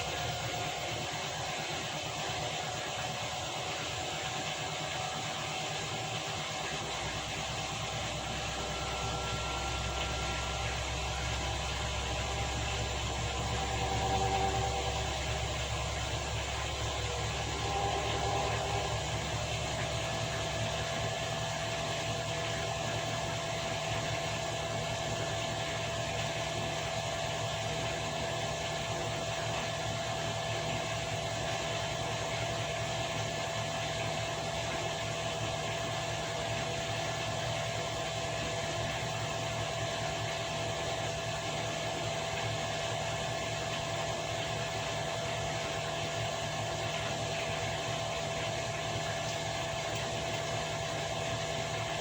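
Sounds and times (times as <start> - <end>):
washing machine running: 0.0 - 52.0.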